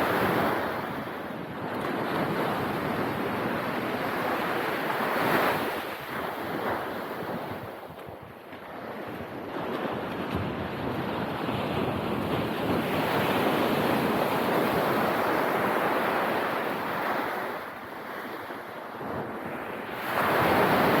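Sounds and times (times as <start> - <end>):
ocean surf breaking on beach: 0.0 - 21.0.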